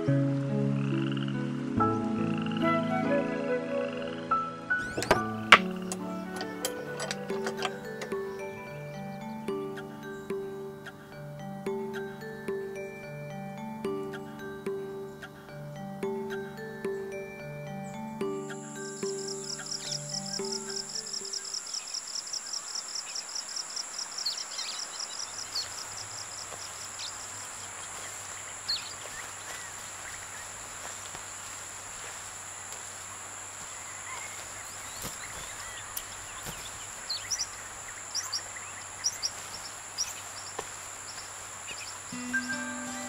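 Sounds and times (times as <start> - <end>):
insects droning: 0.0 - 43.0
fast pulsing insect chirp: 4.9 - 43.0.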